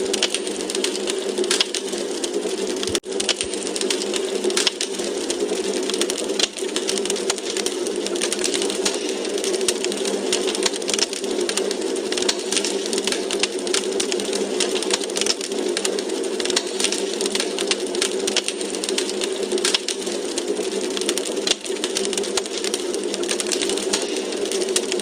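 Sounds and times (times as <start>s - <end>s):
low hiss of burning logs: 0.0s - 25.0s
wood fire crackling: 0.0s - 25.0s.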